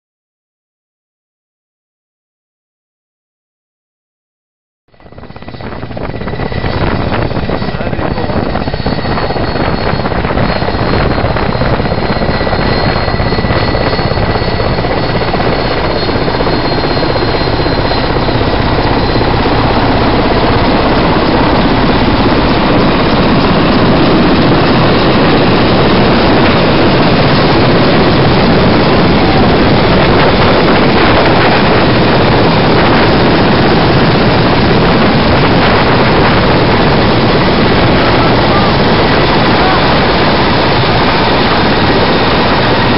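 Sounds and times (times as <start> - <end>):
helicopter rotor and turbine: 4.9 - 42.9
high whine: 4.9 - 42.9
strong wind: 4.9 - 42.9.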